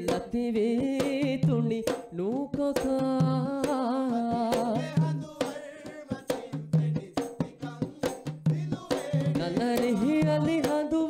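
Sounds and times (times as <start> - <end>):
person singing: 0.0 - 7.3, 8.8 - 11.0
drumming: 0.0 - 11.0.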